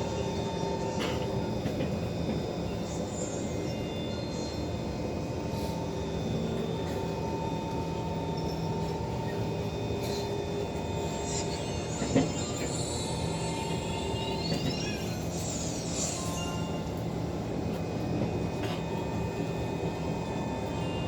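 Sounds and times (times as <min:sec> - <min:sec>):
train rumbling and humming: 0:00.0 - 0:21.0.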